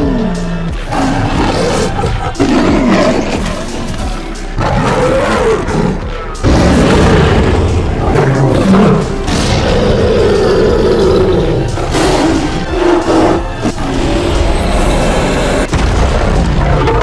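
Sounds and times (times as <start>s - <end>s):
lion roars: 0.0s - 3.9s, 4.6s - 15.7s
background music: 0.0s - 17.0s.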